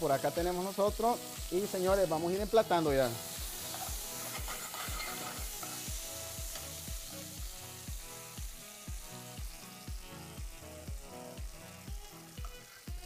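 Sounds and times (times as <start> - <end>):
background music with steady beat: 0.0 - 13.0
steak sizzling in a pan: 0.0 - 13.0.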